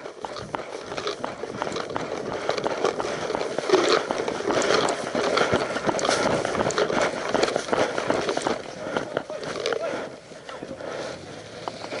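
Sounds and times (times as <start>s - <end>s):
sharp clicks: 0.0s - 9.8s
footsteps crunching through scrub: 0.0s - 12.0s.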